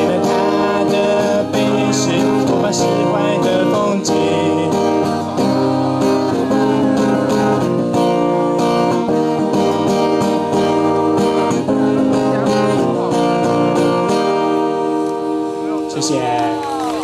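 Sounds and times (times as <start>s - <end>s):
acoustic guitar strumming chords: 0.0s - 16.5s.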